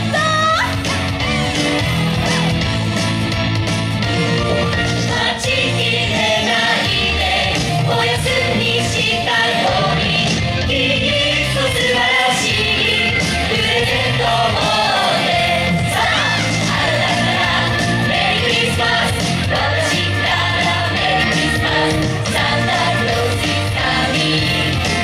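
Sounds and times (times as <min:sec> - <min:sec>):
pop music with singing: 0:00.0 - 0:25.0.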